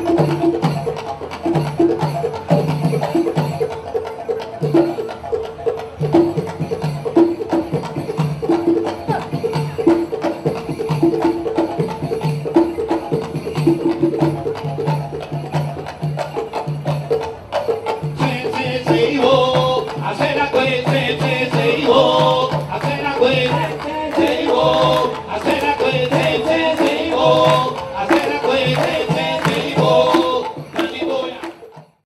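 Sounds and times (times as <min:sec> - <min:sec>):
drums playing rhythm: 0:00.0 - 0:32.0.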